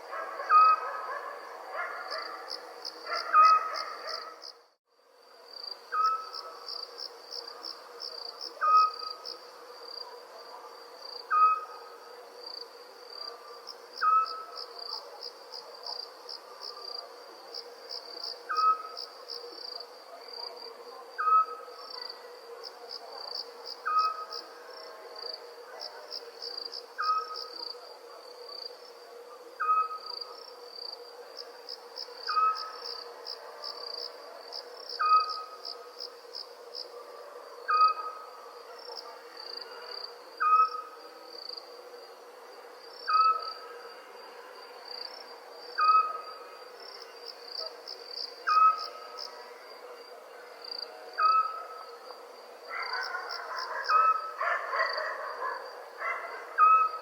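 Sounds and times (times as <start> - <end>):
crickets chirping: 0.0 - 57.0
faint steady drone: 4.6 - 57.0.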